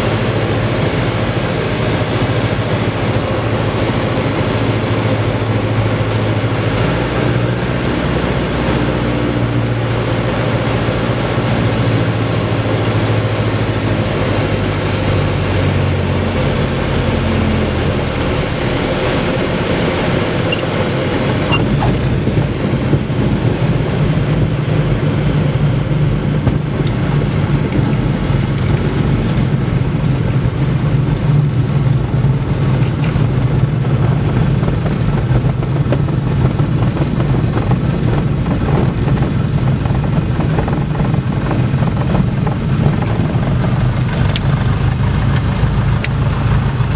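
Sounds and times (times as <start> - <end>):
light aircraft engine: 0.0 - 46.9
wheel rumble and wind noise: 0.0 - 46.9.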